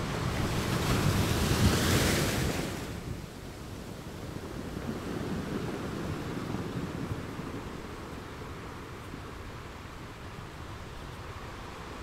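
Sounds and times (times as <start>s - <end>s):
rush of sea: 0.0s - 12.0s.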